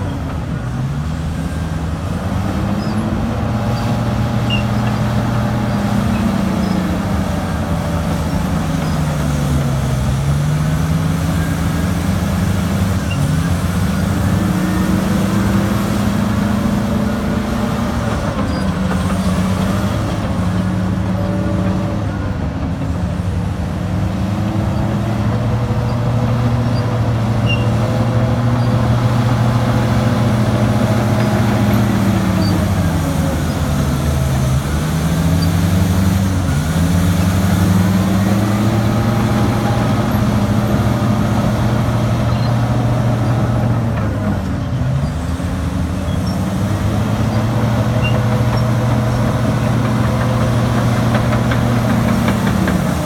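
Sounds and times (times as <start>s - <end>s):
heavy diesel engines running: 0.0s - 53.0s.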